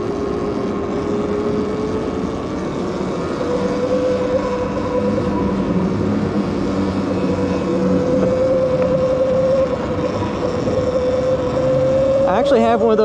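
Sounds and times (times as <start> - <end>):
electric bike motor whining: 0.0 - 13.0
wind and tyre noise: 0.0 - 13.0.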